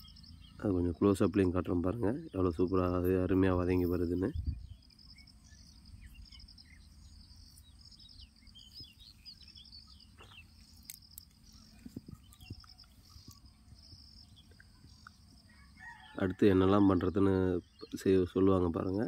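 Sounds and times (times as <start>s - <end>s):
bird chirps: 0.0s - 19.0s
insects chirping: 0.0s - 19.0s.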